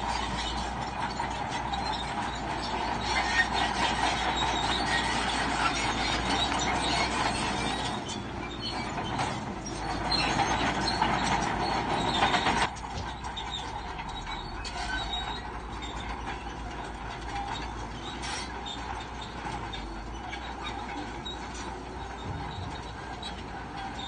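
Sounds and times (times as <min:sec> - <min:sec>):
bulldozer tracks clanking: 0:00.0 - 0:24.0.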